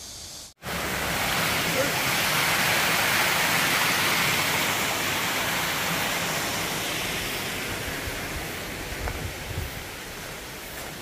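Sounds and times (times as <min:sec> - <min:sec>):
water rushing over rocks: 0:00.6 - 0:11.0.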